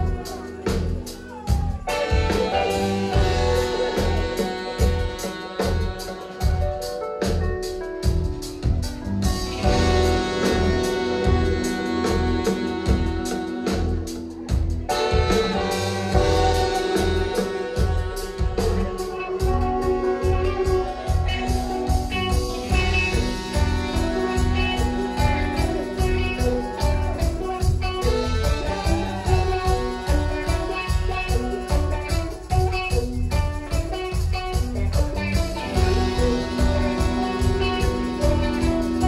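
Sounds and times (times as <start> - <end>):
electric guitar: 0.0 - 39.0
heavy bass line: 0.0 - 39.0
saxophone melody: 0.0 - 39.0
steady drum beat: 0.0 - 39.0.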